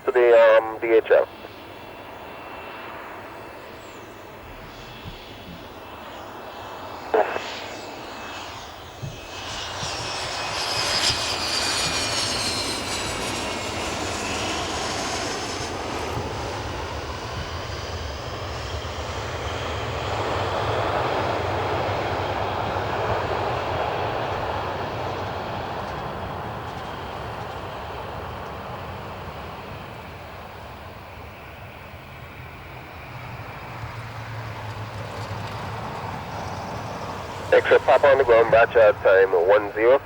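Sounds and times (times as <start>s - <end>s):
jet engine whine and roar: 0.0s - 40.0s.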